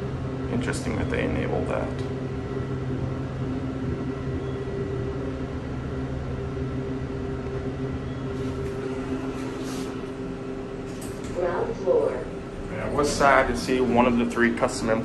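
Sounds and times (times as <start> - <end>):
elevator hum and rumble: 0.0 - 15.0.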